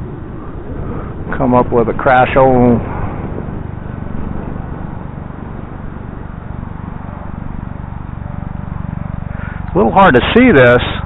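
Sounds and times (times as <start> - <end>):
model plane motor and propeller: 0.0 - 11.0
wind buffeting microphone: 0.0 - 11.0.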